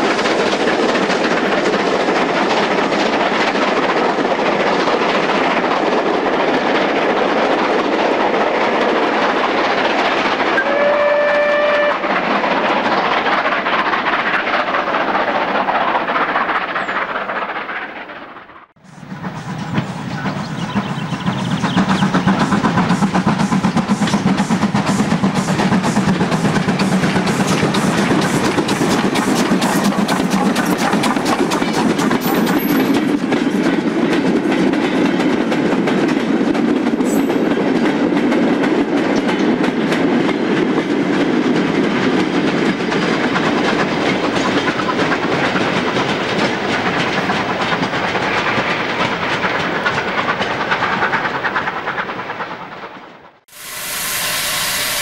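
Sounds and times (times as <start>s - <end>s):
wheels clicking over rail joints: 0.0s - 10.7s, 12.0s - 53.1s
steam locomotive beats: 0.0s - 55.0s.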